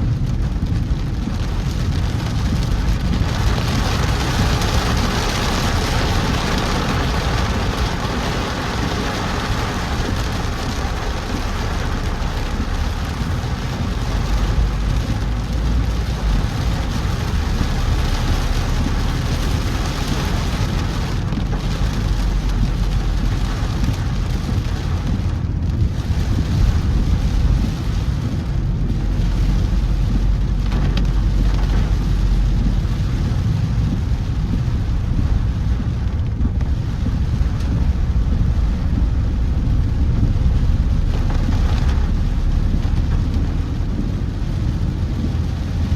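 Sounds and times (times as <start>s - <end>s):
car driving on wet road: 0.0s - 45.9s
heavy rain: 0.0s - 45.9s.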